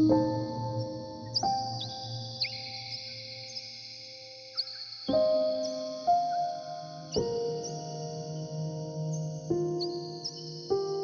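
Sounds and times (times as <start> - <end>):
ambient music with ringing tones: 0.0 - 11.0
high bird chirps: 0.7 - 10.8.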